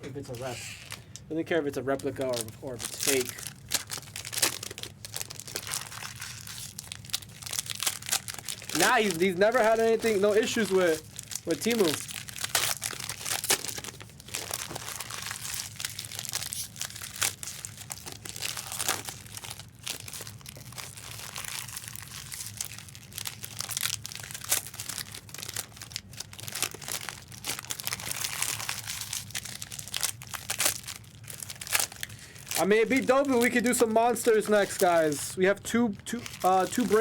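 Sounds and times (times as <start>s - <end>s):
foil wrappers crinkling and tearing: 0.1s - 37.0s.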